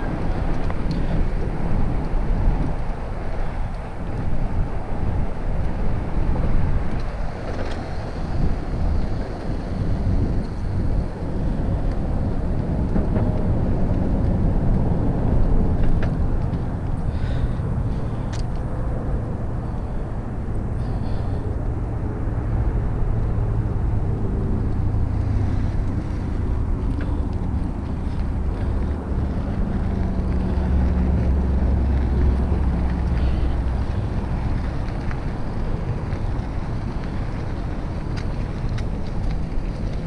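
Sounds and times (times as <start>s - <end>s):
wind rumbling on microphone: 0.0s - 40.0s.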